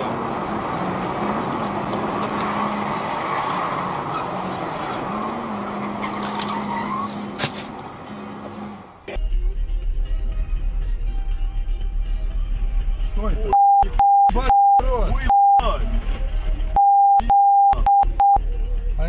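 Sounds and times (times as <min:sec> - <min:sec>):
road and tyre noise: 0:00.0 - 0:09.2, 0:12.8 - 0:19.0.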